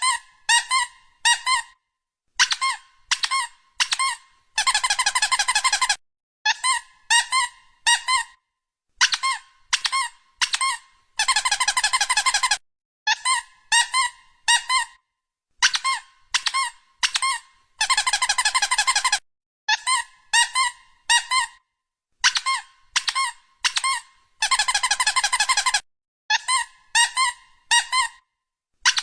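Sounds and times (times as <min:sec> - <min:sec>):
rubber squeaky toy squeaks: 0:00.0 - 0:01.8, 0:02.4 - 0:29.0.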